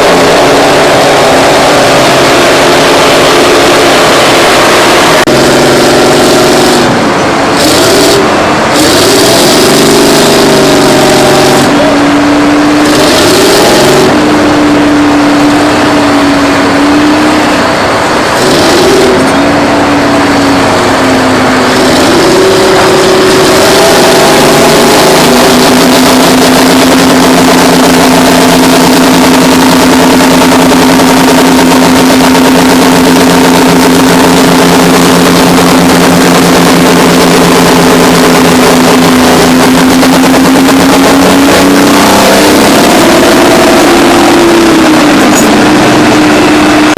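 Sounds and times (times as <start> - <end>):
bulldozer diesel engines under load: 0.0 - 46.9.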